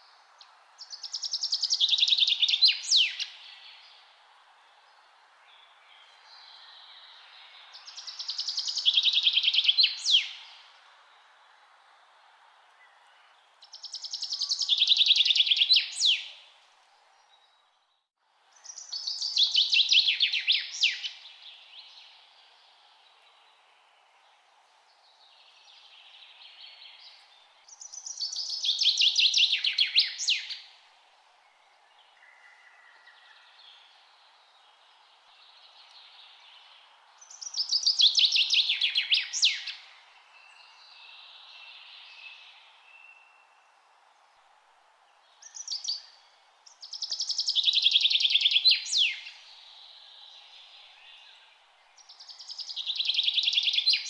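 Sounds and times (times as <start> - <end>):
low background hiss: 0.0 - 54.0.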